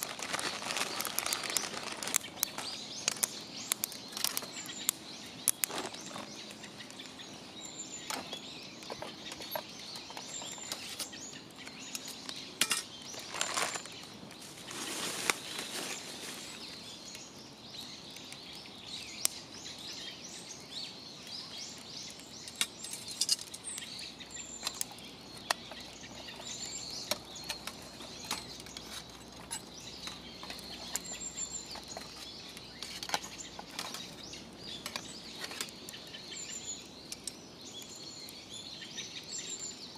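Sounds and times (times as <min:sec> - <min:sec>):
small birds chirping: 0:00.0 - 0:39.9
wood fire crackling: 0:00.0 - 0:39.9.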